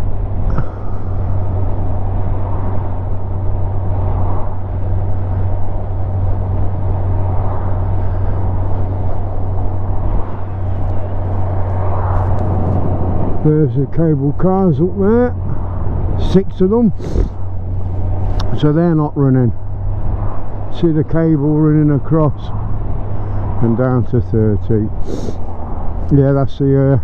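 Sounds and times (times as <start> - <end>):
motorcycle engine hum: 0.0 - 27.0
wind and road noise: 0.0 - 27.0.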